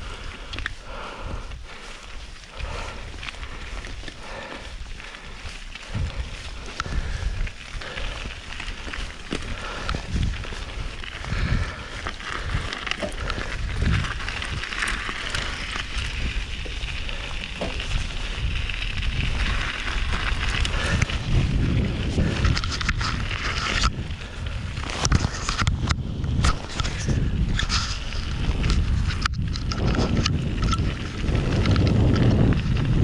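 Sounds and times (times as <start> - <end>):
bike clicking and rattling: 0.0 - 33.0
bike tyres on snowy ground: 0.0 - 33.0
wind rumbling on microphone: 0.0 - 33.0.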